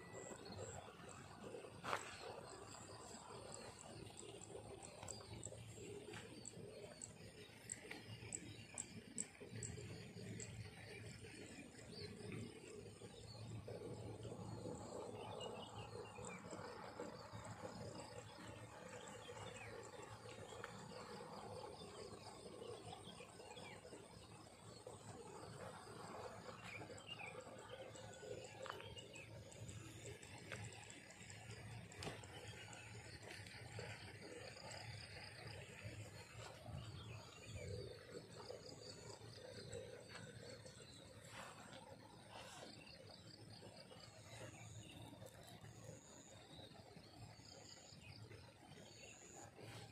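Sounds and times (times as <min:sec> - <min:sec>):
insects chirping: 0:00.0 - 0:49.9
low uneven rumble: 0:00.0 - 0:49.9.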